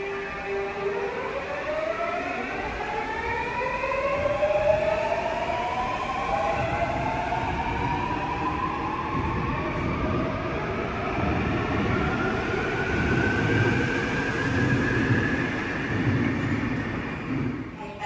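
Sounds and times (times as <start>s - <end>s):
train wheels rumbling: 0.7s - 18.0s.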